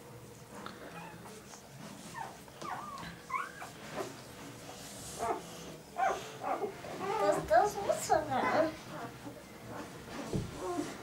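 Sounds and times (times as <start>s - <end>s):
puppies whimpering: 0.8s - 4.2s, 5.1s - 11.0s.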